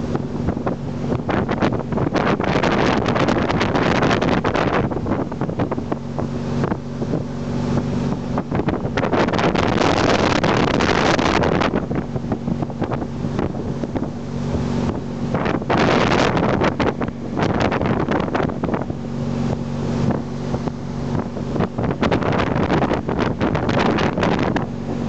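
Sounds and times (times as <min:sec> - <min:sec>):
boat engine humming: 0:00.0 - 0:25.0
wind buffeting microphone: 0:00.0 - 0:25.0.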